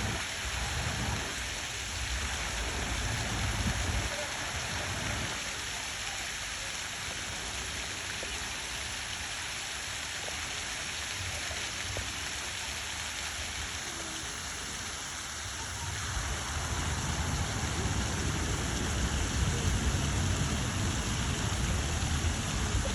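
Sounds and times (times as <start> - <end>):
rushing water hiss: 0.0 - 22.9.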